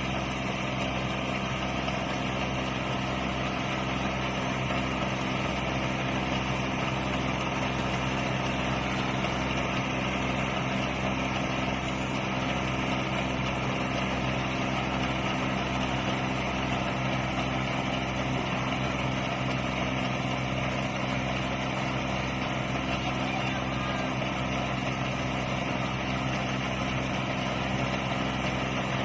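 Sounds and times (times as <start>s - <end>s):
harvesting machine engine droning: 0.0s - 29.0s.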